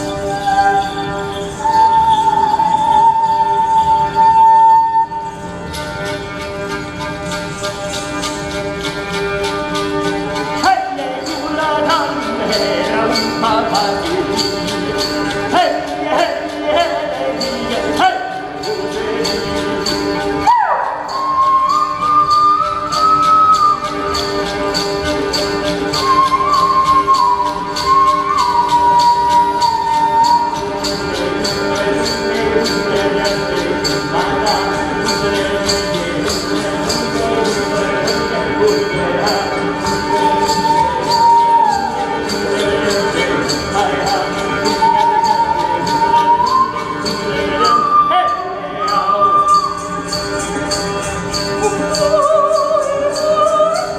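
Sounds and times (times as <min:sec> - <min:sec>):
jingling percussion beat: 0:00.0 - 0:04.4, 0:05.0 - 0:53.9
sliding held melody notes: 0:00.0 - 0:53.9.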